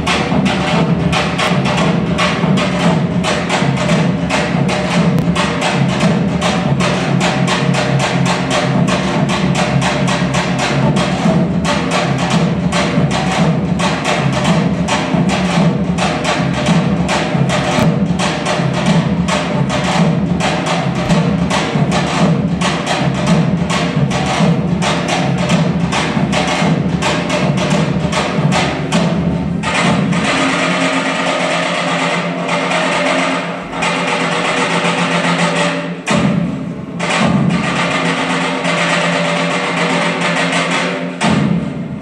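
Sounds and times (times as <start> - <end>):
fast percussion beat: 0.0 - 42.0.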